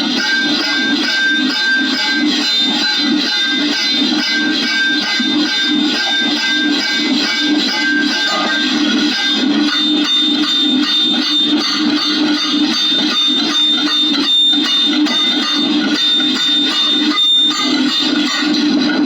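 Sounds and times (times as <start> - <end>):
thin high tone: 0.1 - 18.4.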